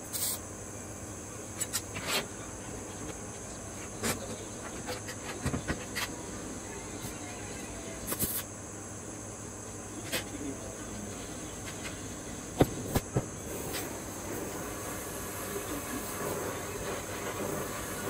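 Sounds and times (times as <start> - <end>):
steady shop hiss: 0.0 - 18.0.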